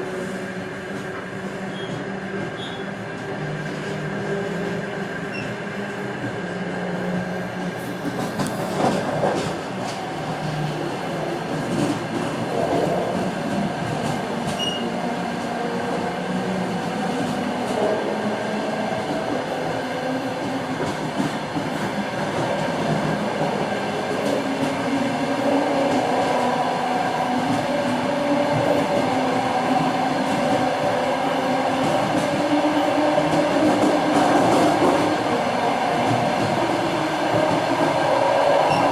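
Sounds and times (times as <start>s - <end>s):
train howl with drifting tones: 0.0s - 38.9s.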